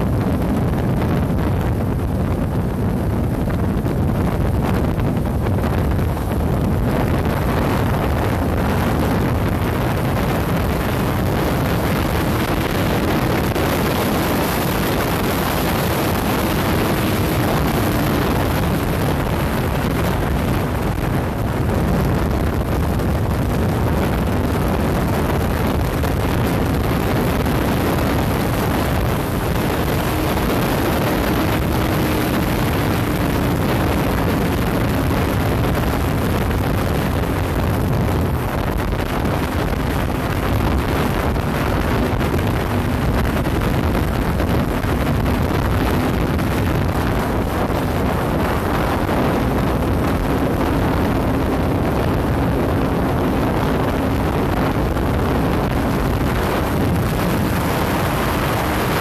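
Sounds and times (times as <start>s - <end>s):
motorcycle engine hum: 0.0s - 59.0s
wind rushing over microphone: 0.0s - 59.0s.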